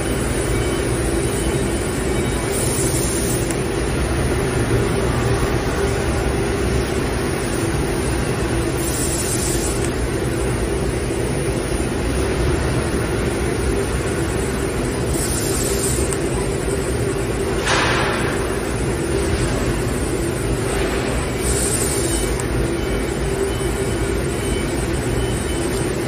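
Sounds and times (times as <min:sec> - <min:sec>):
laser cutting machine humming: 0:00.0 - 0:26.0.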